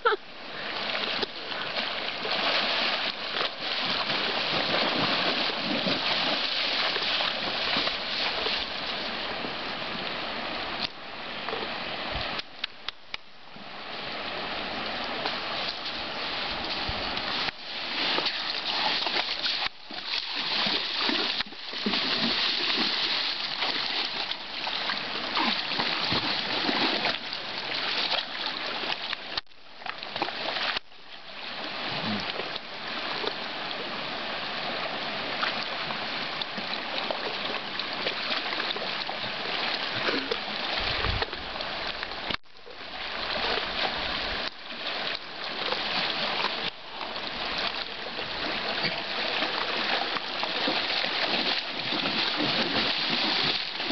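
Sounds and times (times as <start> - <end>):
water splashing and sloshing: 0.0 - 53.9.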